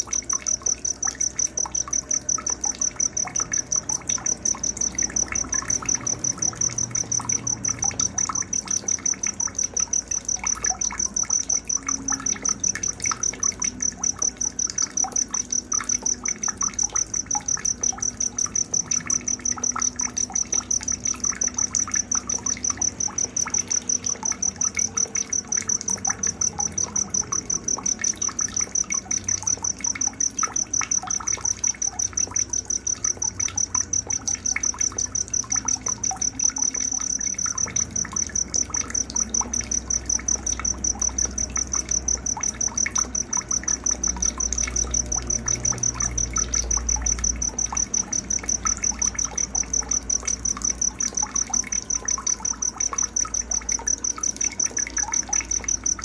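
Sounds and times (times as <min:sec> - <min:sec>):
faint water trickle: 0:00.0 - 0:56.0
insects chirping: 0:00.0 - 0:56.0.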